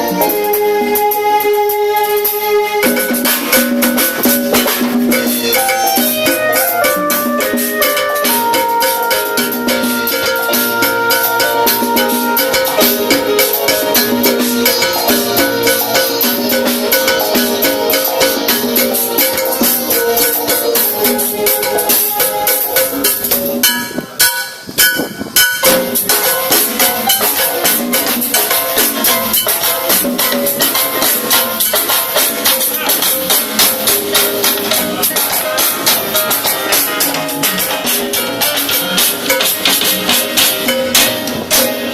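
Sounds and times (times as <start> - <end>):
live band playing upbeat music: 0.0 - 41.9.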